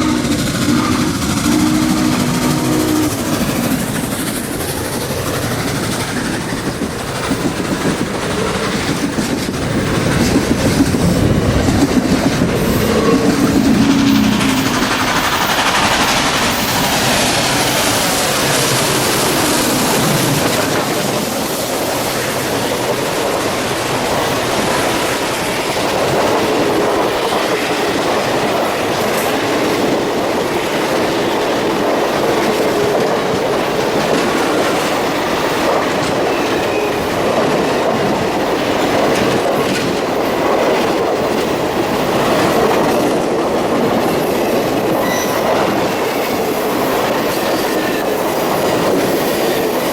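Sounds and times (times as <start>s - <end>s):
train cars rolling on rails: 0.0s - 49.9s.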